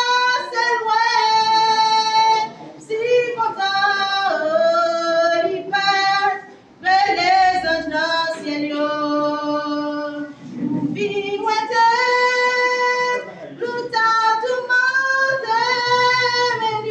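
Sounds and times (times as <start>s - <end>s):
voices singing gospel: 0.0s - 16.9s.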